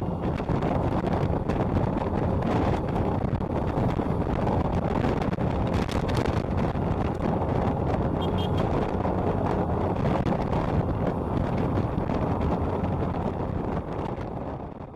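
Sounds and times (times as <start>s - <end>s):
motorcycle engine: 0.0s - 14.9s
road noise: 0.0s - 14.9s
wind rushing over microphone: 0.0s - 14.9s.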